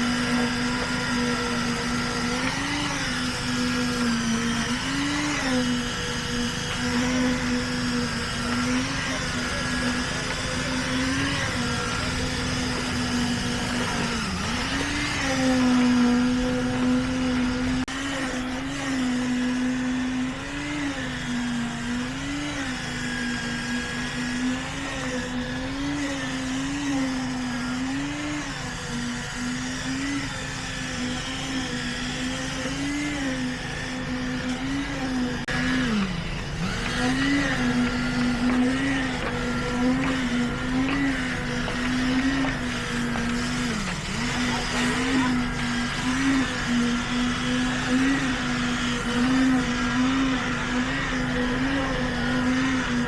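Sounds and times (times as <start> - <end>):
motor humming with wavering pitch: 0.0 - 53.0.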